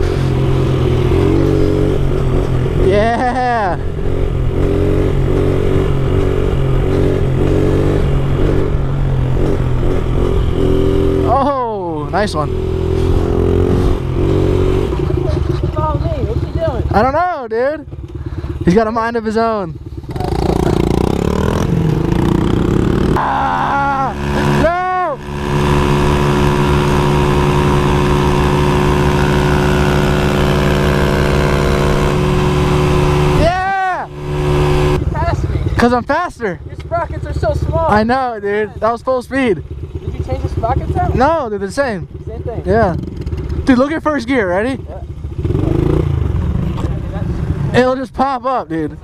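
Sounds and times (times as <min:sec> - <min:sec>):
motorbike engine running: 0:00.0 - 0:48.1
wind and road noise: 0:00.0 - 0:49.0.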